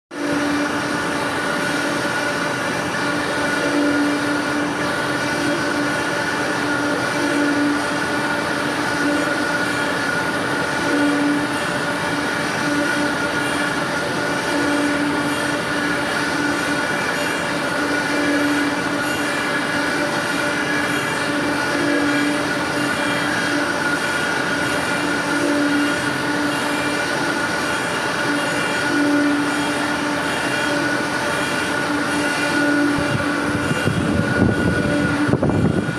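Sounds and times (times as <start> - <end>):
surface grinder whining: 0.1 - 35.9.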